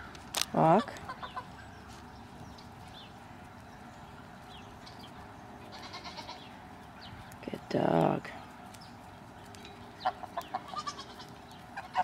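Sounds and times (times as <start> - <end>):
geese calling: 0.0 - 7.4, 8.8 - 12.0.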